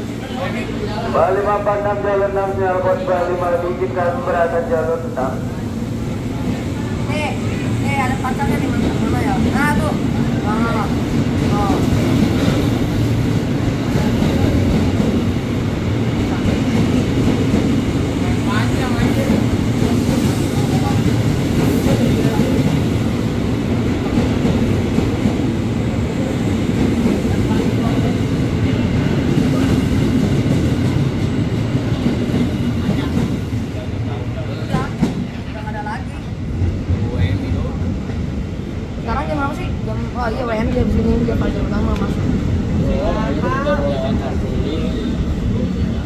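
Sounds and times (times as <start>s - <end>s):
train wheels on rails: 0.0s - 46.0s.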